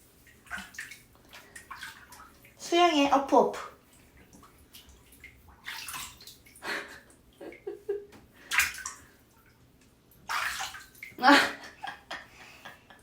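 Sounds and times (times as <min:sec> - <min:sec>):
water splashing in bathtub: 0:00.0 - 0:12.3.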